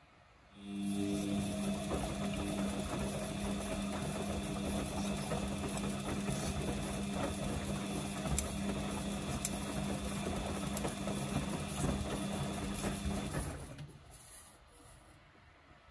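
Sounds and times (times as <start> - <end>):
washing machine tumbling laundry: 0.6 - 14.3.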